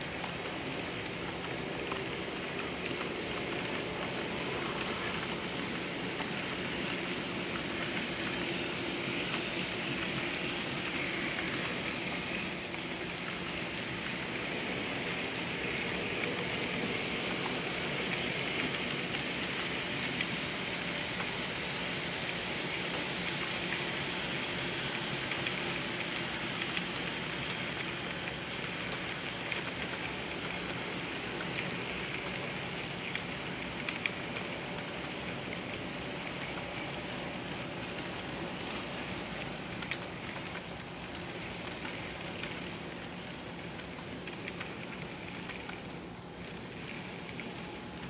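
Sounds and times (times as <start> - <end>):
wheels rattling on rail: 0.0 - 45.8.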